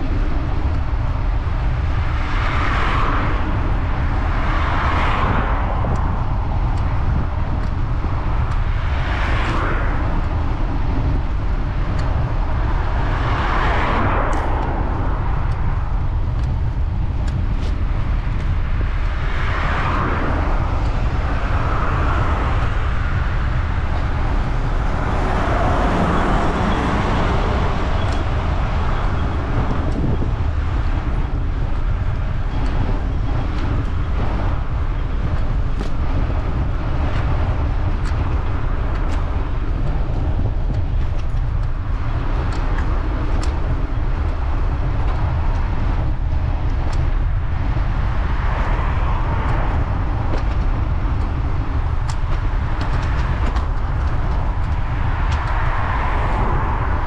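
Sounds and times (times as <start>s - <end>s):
wind rushing over microphone: 0.0s - 57.0s
motor traffic passing: 3.2s - 57.0s.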